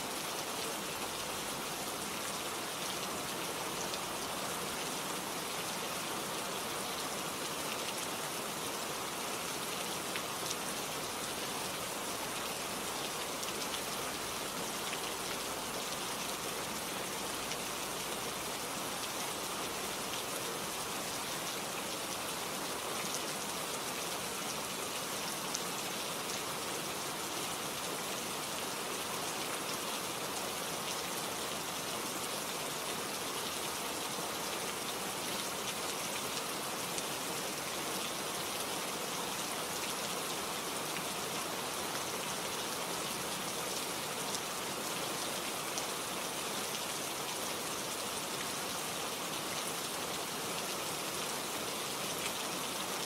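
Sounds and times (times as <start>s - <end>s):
rain falling on leaves: 0.0s - 53.0s.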